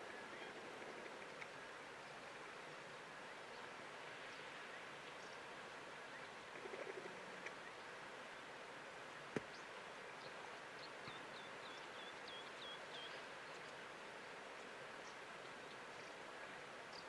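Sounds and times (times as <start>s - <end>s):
faint bush ambience: 0.0s - 17.0s.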